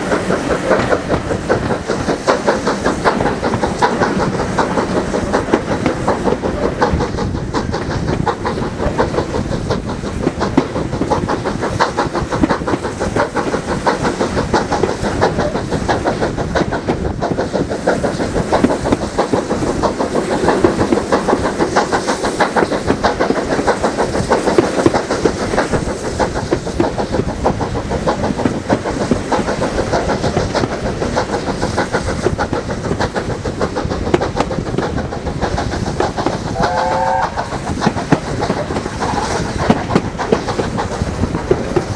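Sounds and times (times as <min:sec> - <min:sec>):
train rumble: 0:00.0 - 0:41.9
train wheels clattering over rails: 0:00.0 - 0:41.9.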